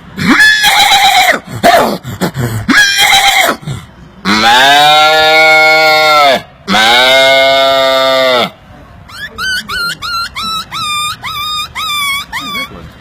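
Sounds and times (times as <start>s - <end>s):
man imitating animal calls: 0.2s - 13.0s.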